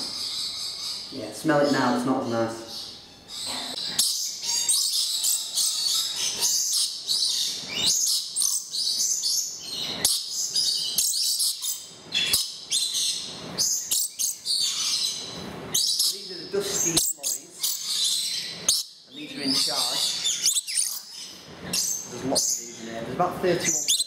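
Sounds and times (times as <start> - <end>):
lorikeets chirping and squawking: 0.0 - 24.0.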